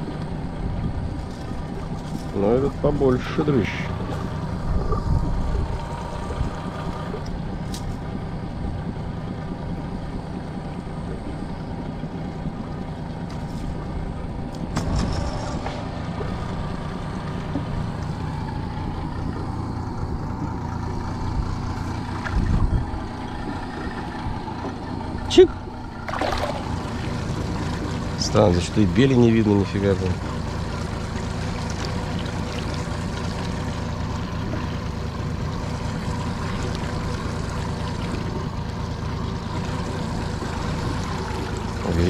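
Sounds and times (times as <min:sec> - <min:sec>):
boat motor rumbling: 0:00.0 - 0:42.0.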